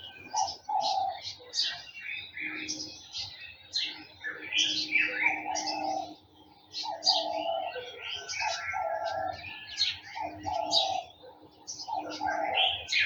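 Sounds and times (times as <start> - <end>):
birds chirping and trilling: 0.0 - 13.0
lower bird call: 0.0 - 13.0.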